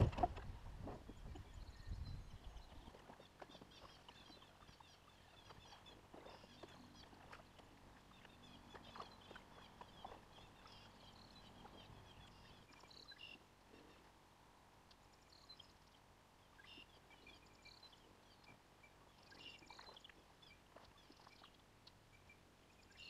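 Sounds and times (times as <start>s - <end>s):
faint high-pitched chirping: 1.1s - 14.1s, 14.9s - 23.0s.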